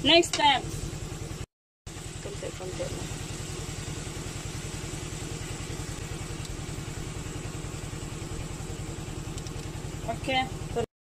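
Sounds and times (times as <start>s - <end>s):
small engine idling: 0.7s - 10.9s.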